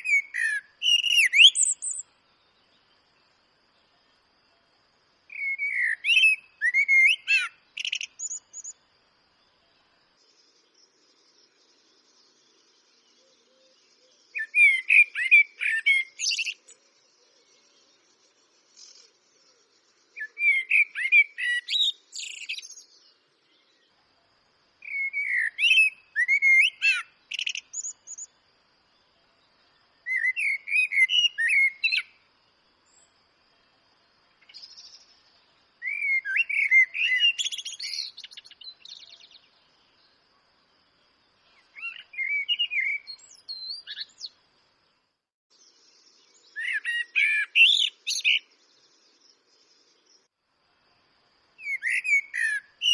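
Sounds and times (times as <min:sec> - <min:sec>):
blackbird singing: 0:00.0 - 0:04.2, 0:05.2 - 0:08.8, 0:09.4 - 0:24.0, 0:24.8 - 0:28.4, 0:29.0 - 0:32.2, 0:34.3 - 0:40.2, 0:41.4 - 0:44.4, 0:45.5 - 0:50.3, 0:51.6 - 0:52.9.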